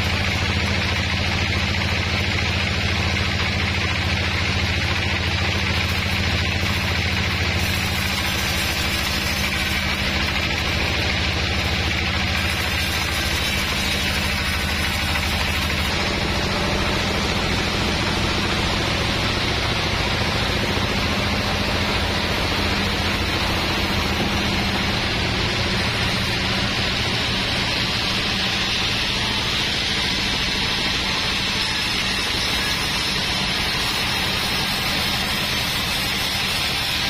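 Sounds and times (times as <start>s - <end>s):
saw blade cutting log: 0.0s - 37.0s
sawmill machinery running: 0.0s - 37.0s
sawmill motor hum: 0.0s - 37.0s.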